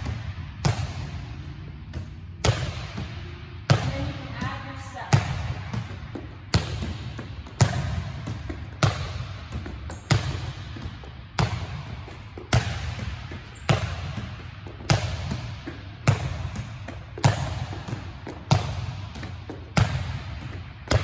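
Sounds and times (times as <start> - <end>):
volleyball smacking gym wall: 0.0 - 21.0.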